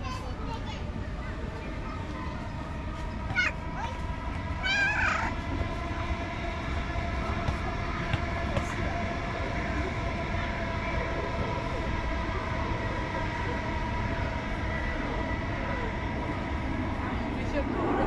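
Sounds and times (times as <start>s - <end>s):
distant vehicle rumble: 0.0s - 18.0s.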